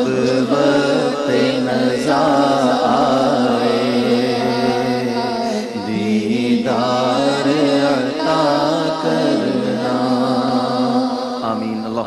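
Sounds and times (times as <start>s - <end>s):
man singing devotional song: 0.0s - 12.0s.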